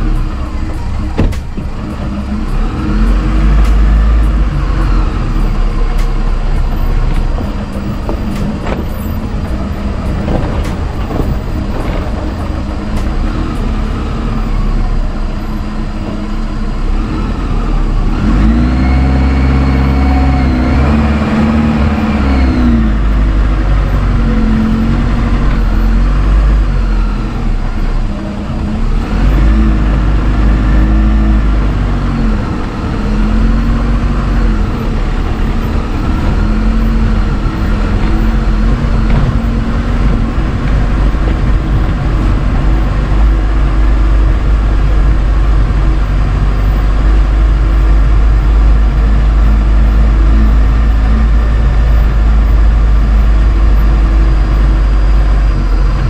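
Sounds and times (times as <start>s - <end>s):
car engine revving: 0.0s - 56.0s
car low rumble: 0.0s - 56.0s.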